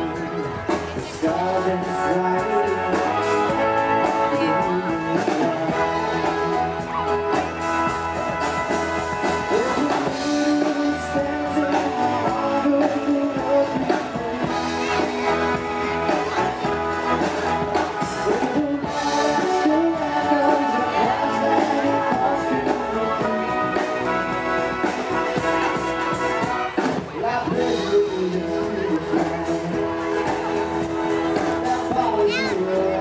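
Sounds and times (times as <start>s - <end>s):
band playing live music: 0.0s - 33.0s.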